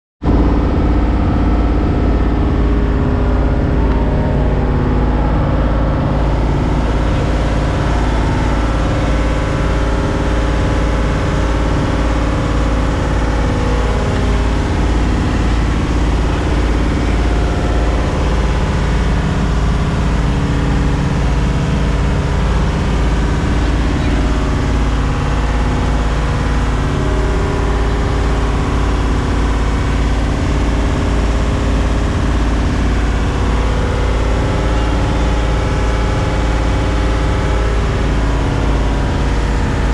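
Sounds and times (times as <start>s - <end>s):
boat engine throbbing: 0.2s - 39.9s.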